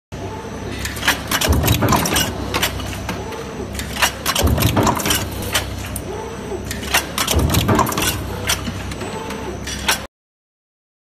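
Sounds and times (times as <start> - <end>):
steady machine hum: 0.1 - 10.1.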